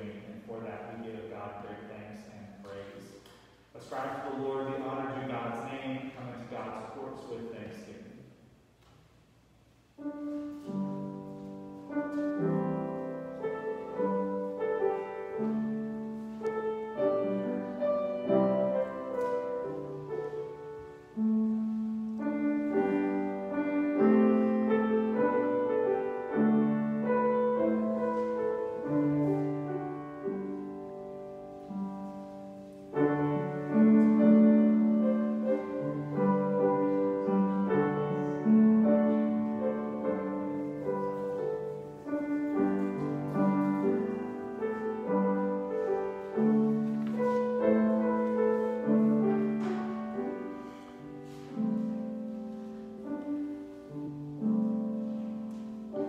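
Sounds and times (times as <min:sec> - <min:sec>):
slow piano music: 0:00.0 - 0:56.0.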